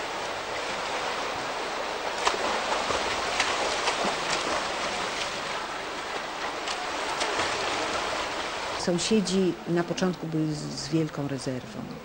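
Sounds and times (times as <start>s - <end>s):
water splashing in a pool: 0.0s - 9.6s.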